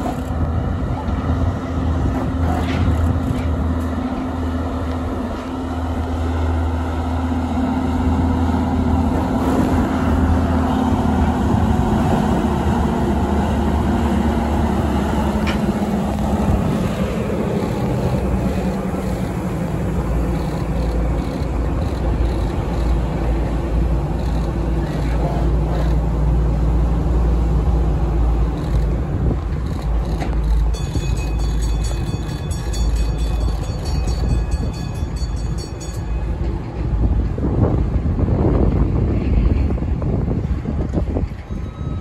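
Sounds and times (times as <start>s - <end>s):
railcar engine drone: 0.0s - 42.0s
train rolling noise: 0.0s - 42.0s.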